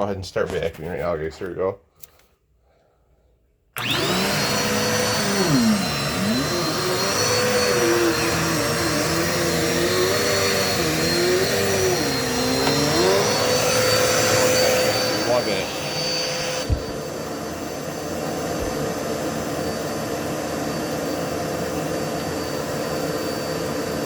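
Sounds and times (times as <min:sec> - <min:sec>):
vacuum cleaner motor whine: 0:03.8 - 0:24.0.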